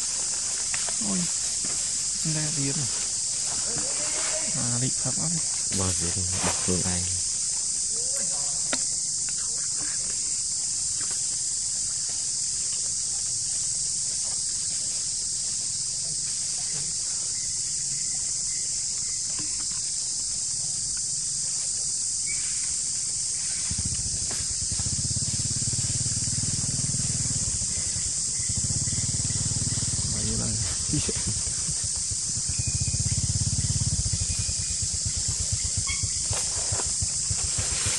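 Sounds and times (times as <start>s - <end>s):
insect chorus drone: 0.0s - 37.9s.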